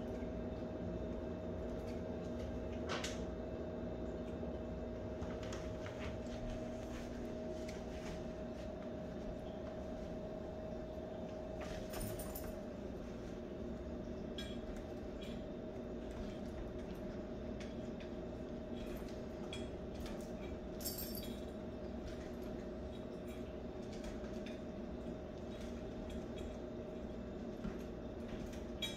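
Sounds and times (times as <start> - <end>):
steady background hum: 0.0 - 28.9.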